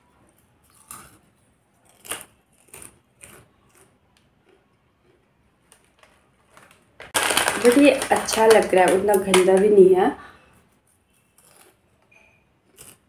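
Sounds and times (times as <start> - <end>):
crunchy snack being chewed: 0.2 - 9.0, 11.2 - 13.0.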